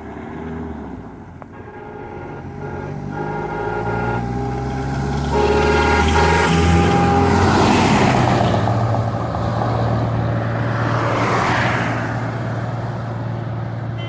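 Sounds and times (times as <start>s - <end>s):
bus diesel engine humming: 0.0s - 14.0s.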